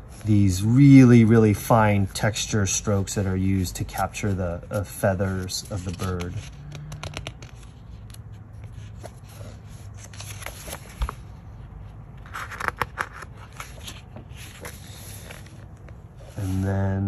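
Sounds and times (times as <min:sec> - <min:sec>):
book pages being turned: 0:00.0 - 0:17.0.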